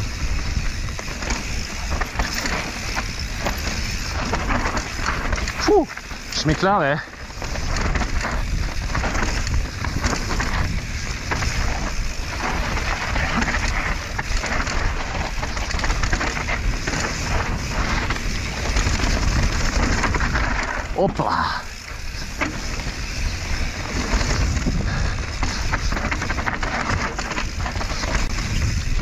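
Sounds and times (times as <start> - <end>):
bike clattering and rattling: 0.0 - 29.0
bike tyres rushing over dirt: 0.0 - 29.0
wind rumbling on microphone: 0.0 - 29.0.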